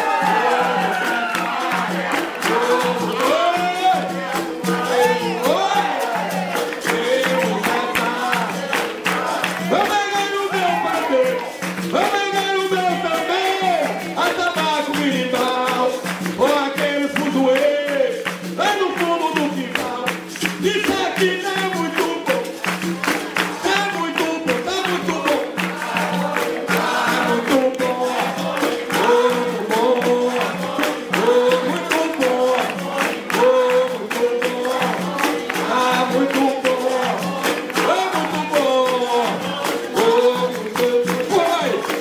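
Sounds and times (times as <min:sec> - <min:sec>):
group singing: 0:00.0 - 0:42.0
hand drum: 0:00.0 - 0:42.0
hand-clapping: 0:00.0 - 0:42.0.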